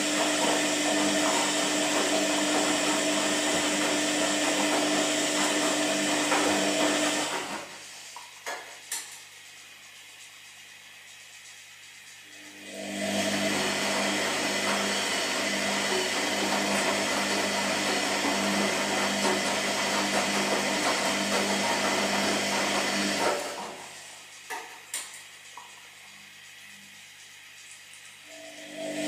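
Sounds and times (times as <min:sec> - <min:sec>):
washing machine motor hum: 0:00.0 - 0:29.0
washing machine rushing noise: 0:00.0 - 0:29.0.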